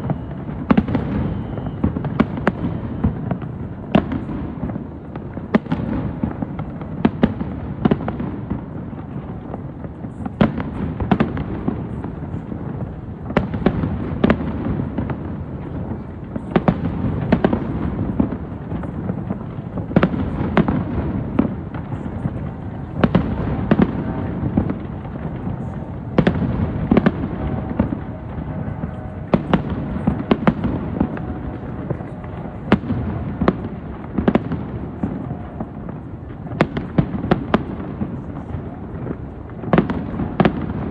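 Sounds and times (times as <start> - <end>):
firework bangs: 0.0 - 40.9
low rumble and crackle: 0.0 - 40.9.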